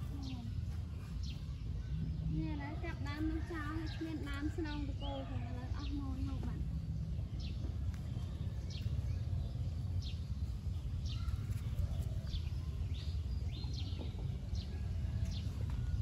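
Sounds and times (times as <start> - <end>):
bird chirping: 0.0 - 16.0
low rumble: 0.0 - 16.0.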